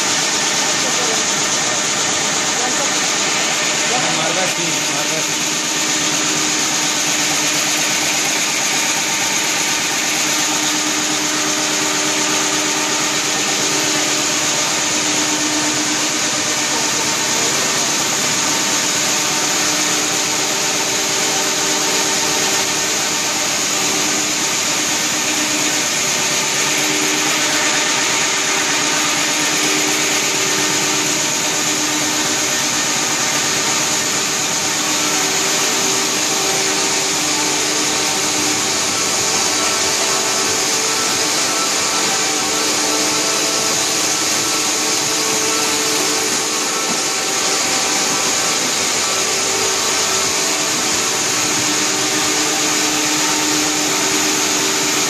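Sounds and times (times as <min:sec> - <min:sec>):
printing press whirring: 0:00.0 - 0:55.0.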